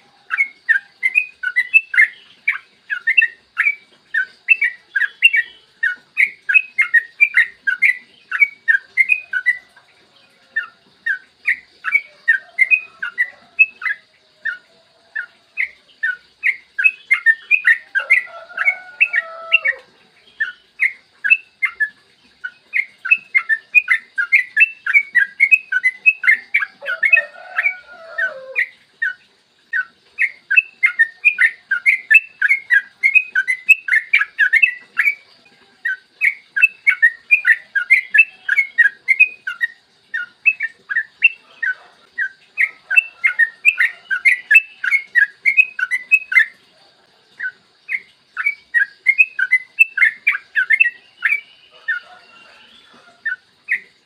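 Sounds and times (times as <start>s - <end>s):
bulbul chirping song: 0.0s - 54.0s.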